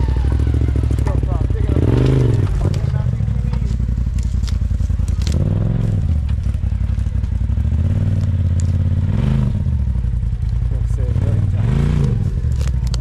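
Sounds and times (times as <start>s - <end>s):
utv engine revving: 0.0s - 13.0s
clattering and scraping under tyres: 0.2s - 13.0s.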